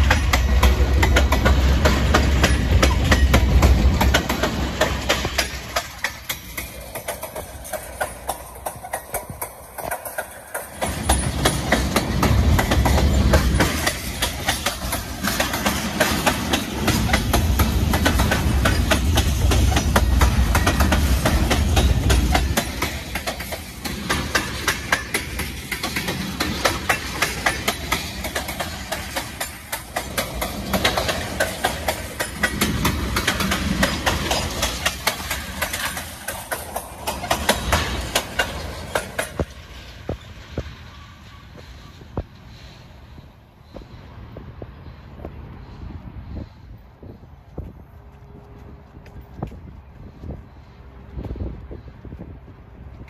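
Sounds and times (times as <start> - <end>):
low train rumble: 0.0 - 53.0
train wheels clicking over rail joints: 0.0 - 53.0.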